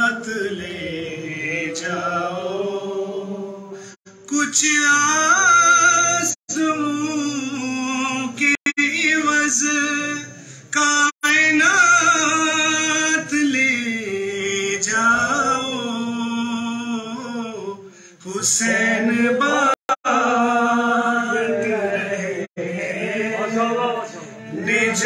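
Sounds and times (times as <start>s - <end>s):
man singing unaccompanied: 0.0s - 3.5s, 4.2s - 25.0s.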